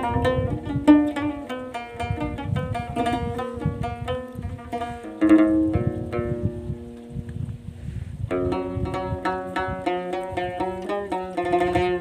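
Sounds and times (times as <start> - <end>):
plucked lute: 0.0 - 7.6, 8.2 - 12.0.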